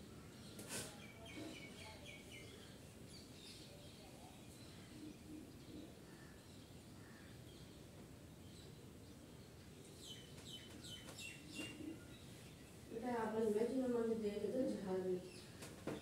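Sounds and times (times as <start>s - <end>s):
distant birds chirping: 0.0s - 16.0s
faint background hiss: 0.0s - 16.0s.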